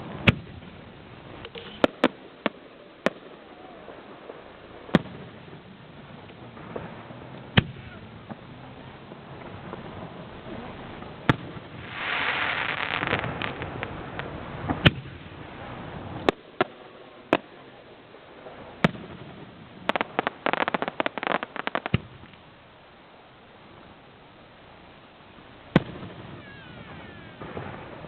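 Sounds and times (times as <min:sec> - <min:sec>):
rapid crackling firework pops: 0:00.0 - 0:22.5, 0:25.6 - 0:28.0
crackling firework hiss: 0:00.0 - 0:28.0.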